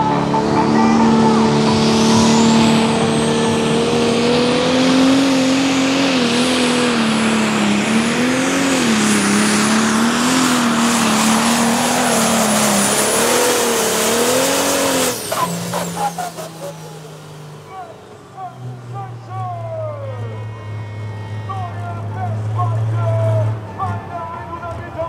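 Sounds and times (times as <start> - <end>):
diesel engine running hard: 0.0 - 25.0.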